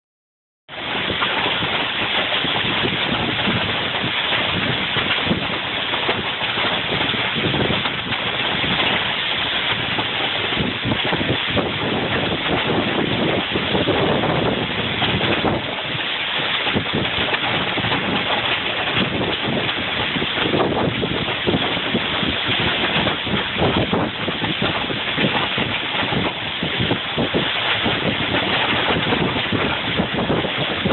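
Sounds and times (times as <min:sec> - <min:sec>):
heavy rain hissing: 0:00.7 - 0:30.9
wind buffeting microphone: 0:00.7 - 0:30.9.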